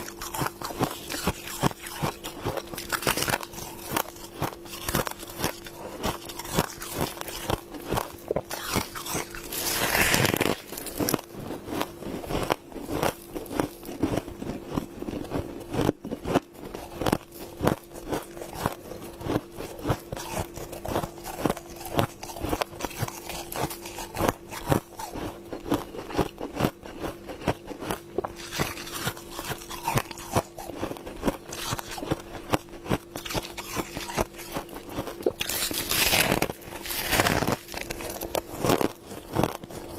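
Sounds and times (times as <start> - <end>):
faint hum: 0.0 - 39.9
frost being chewed with crunches: 0.0 - 39.9.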